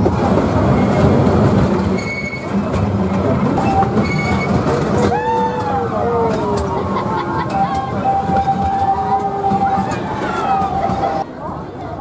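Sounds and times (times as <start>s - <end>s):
carriages rattling: 0.0s - 12.0s
train wheels clattering on track: 0.0s - 12.0s.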